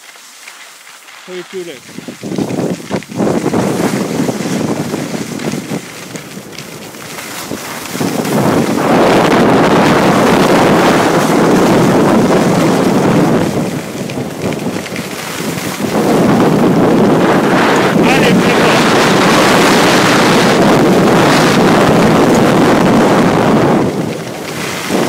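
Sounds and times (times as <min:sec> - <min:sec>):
wind buffeting microphone: 0:01.3 - 0:25.0.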